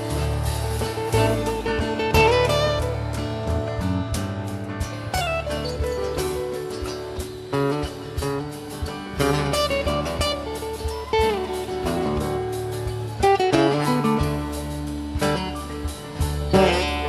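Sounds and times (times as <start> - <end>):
bass guitar: 0.0 - 17.0
guitar lead melody: 0.0 - 17.0
steady drum beat: 0.0 - 17.0.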